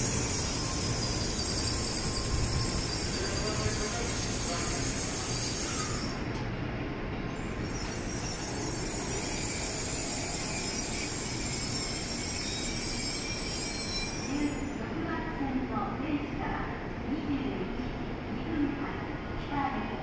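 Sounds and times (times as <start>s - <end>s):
train rolling noise: 0.0s - 19.5s.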